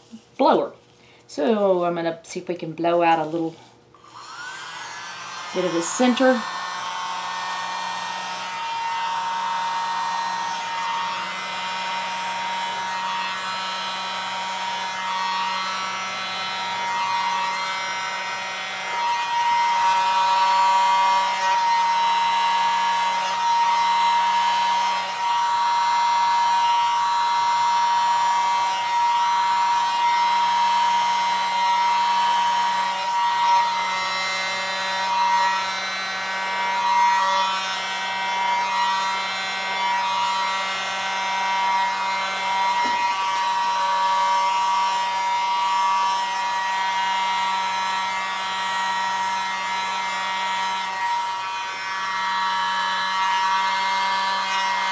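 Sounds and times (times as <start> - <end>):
electric air blower whining: 3.2 - 54.9.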